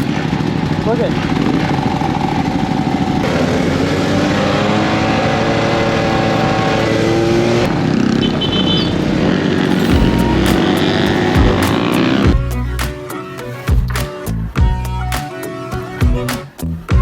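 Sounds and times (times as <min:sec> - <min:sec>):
scooter engines running: 0:00.0 - 0:13.9.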